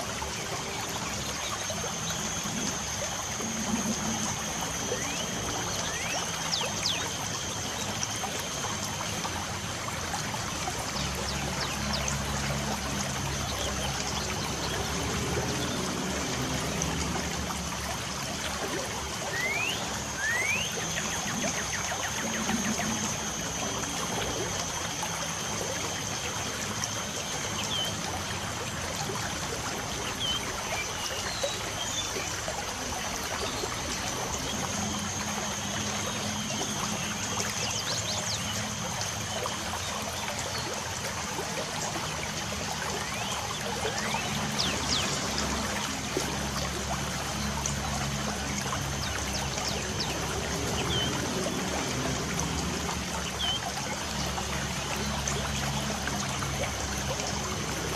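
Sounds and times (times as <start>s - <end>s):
water trickling and dripping: 0.0s - 57.9s.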